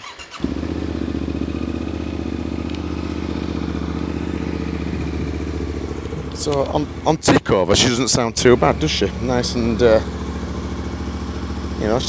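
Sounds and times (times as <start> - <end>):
motorcycle engine starting and idling: 0.0 - 12.0.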